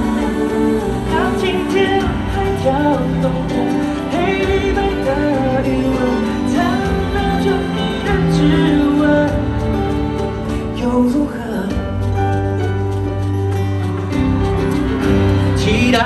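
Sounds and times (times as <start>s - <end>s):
man singing pop ballad: 0.0s - 12.9s, 15.0s - 16.0s
live band accompaniment: 0.0s - 16.0s.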